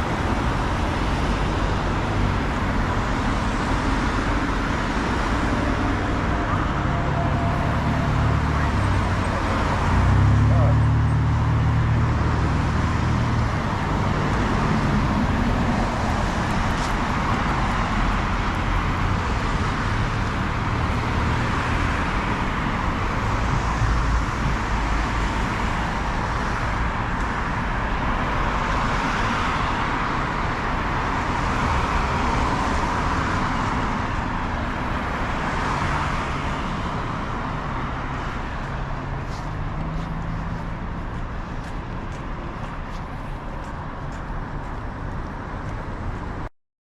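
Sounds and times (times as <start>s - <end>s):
cars passing: 0.0s - 46.5s
low traffic rumble: 0.0s - 46.5s.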